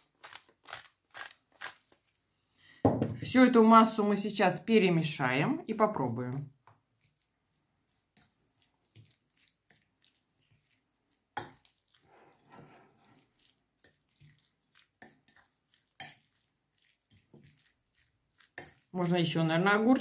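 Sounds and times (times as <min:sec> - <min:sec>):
wet squelches of stirring: 0:00.0 - 0:02.8, 0:04.8 - 0:20.0.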